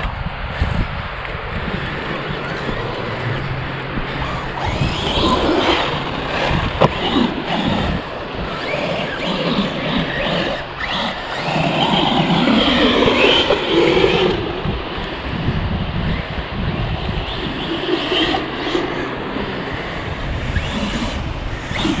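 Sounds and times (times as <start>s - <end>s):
electric motor whining: 0.0s - 22.0s
wind rumbling on microphone: 0.0s - 22.0s.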